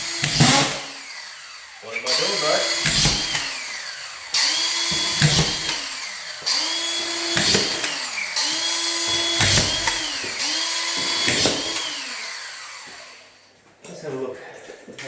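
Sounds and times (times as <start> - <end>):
screw gun motor whirring: 0.0 - 13.2.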